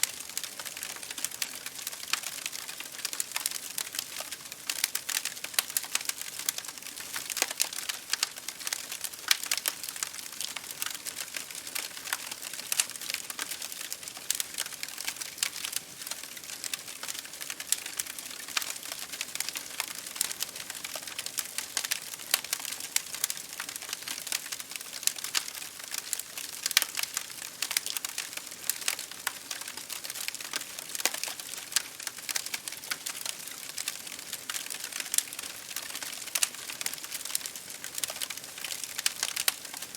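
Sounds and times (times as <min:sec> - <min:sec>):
rain pattering on a window: 0:00.0 - 0:39.9
wood fire crackling: 0:00.0 - 0:39.9.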